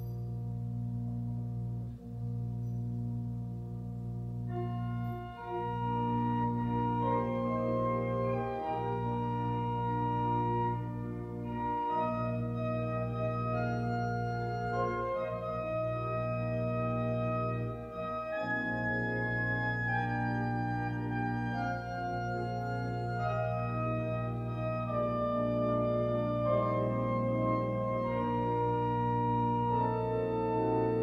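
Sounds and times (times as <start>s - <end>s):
organ playing slow chords: 0.0s - 31.0s.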